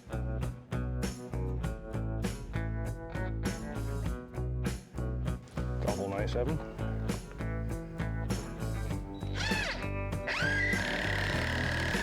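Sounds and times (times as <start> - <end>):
strummed guitar music with beat: 0.0 - 11.1.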